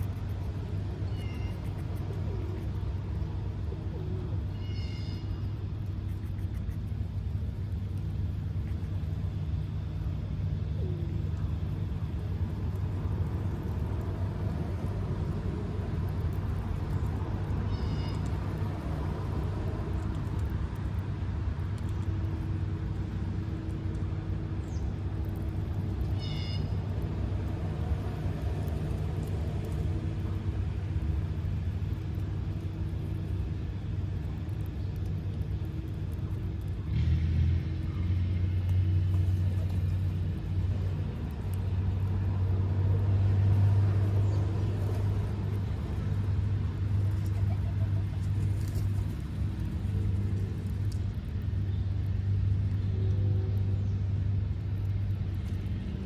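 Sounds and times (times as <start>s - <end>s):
low rumble of road traffic: 0.0s - 56.0s.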